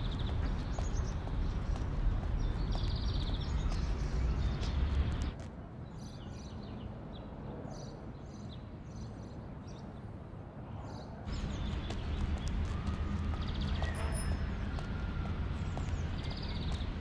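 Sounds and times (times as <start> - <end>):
small birds chirping: 0.0 - 10.1, 10.9 - 17.0.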